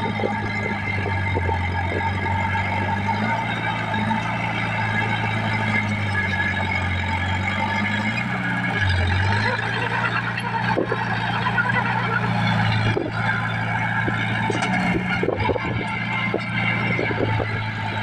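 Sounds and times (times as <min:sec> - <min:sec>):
bulldozer diesel engine running: 0:00.0 - 0:18.0
track clatter: 0:00.0 - 0:18.0.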